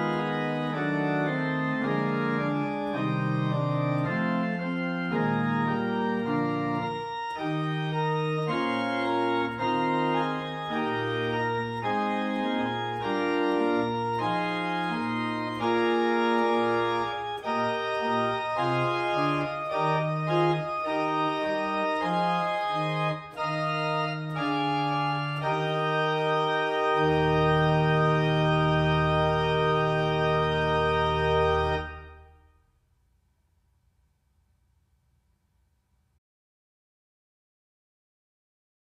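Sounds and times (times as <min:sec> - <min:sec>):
church organ chords: 0:00.0 - 0:32.6.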